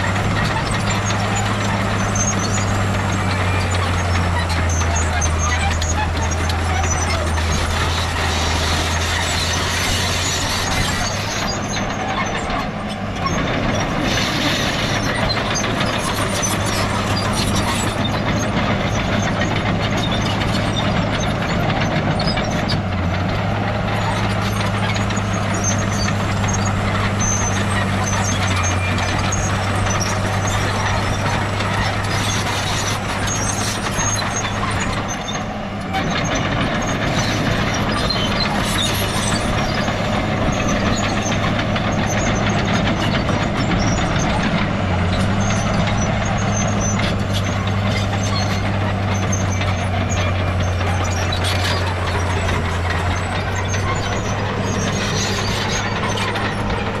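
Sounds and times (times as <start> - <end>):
heavy diesel machinery engine hum: 0.0 - 57.0.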